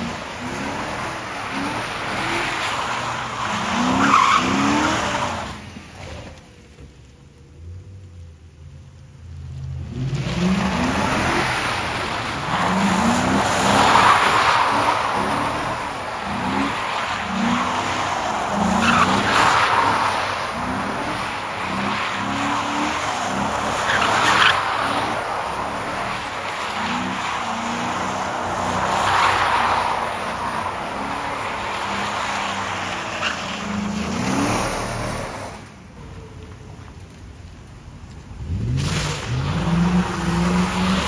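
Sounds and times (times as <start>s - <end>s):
tyres skidding on wet pavement: 0.0s - 41.0s.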